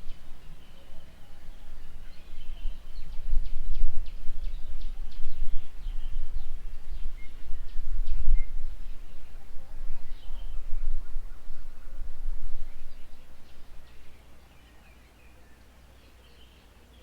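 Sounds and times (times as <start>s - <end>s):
low outdoor rumble: 0.0s - 15.0s
birds calling: 0.0s - 17.0s.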